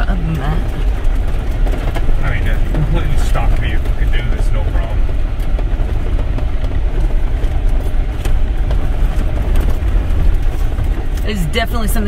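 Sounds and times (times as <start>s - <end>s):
jeep engine and tyres rumbling: 0.0s - 12.0s.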